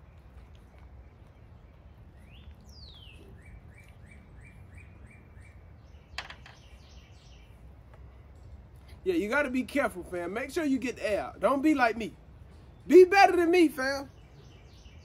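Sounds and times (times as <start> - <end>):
low outdoor rumble: 0.0 - 15.0
songbird singing: 0.0 - 15.0.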